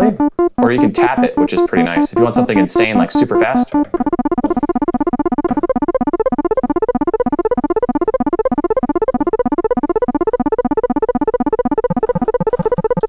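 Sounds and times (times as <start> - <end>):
fast bass synthesizer arpeggio: 0.0 - 13.0.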